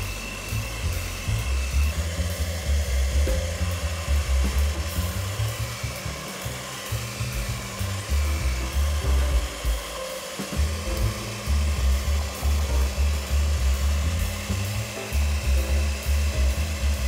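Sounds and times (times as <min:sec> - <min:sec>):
background music with bass: 0:00.0 - 0:17.0
beaters scraping steel bowl: 0:00.0 - 0:17.0
electric hand mixer running: 0:00.0 - 0:17.0.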